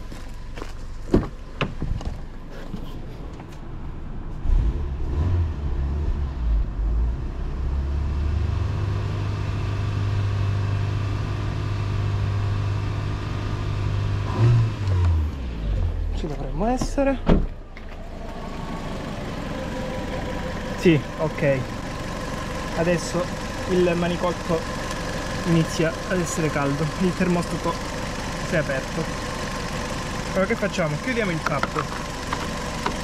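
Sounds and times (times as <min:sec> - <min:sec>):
car engine revving and idling: 0:00.0 - 0:33.0.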